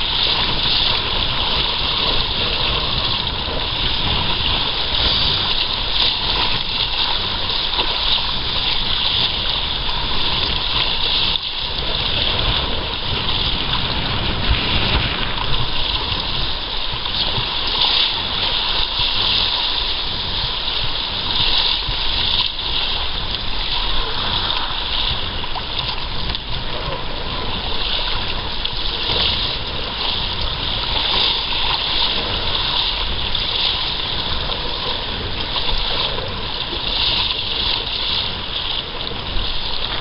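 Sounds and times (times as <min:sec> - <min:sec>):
water rushing along a kayak: 0:00.0 - 0:40.0.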